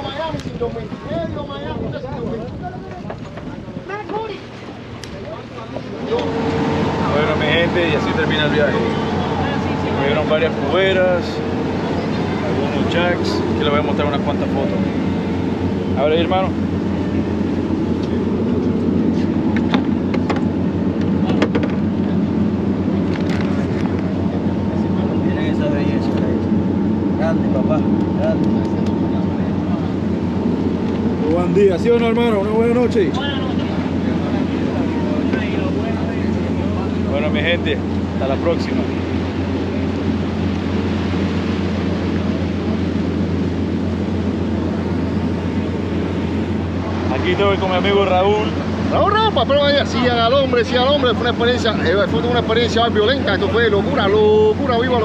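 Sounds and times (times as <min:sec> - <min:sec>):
boat engine rumble: 0:00.0 - 0:55.0
wind: 0:00.0 - 0:55.0.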